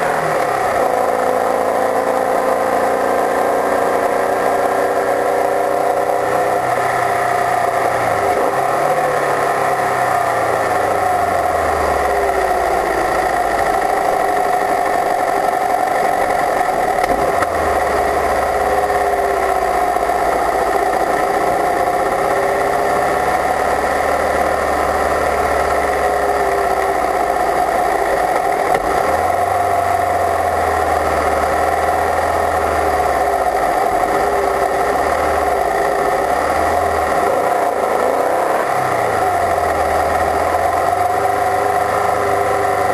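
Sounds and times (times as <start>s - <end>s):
race car engine running hard: 0.0s - 42.9s
wind and road noise: 0.0s - 42.9s.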